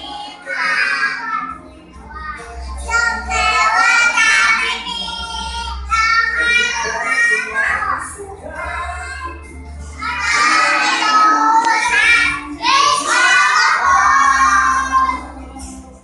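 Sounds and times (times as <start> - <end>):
young children singing: 0.0 - 16.0.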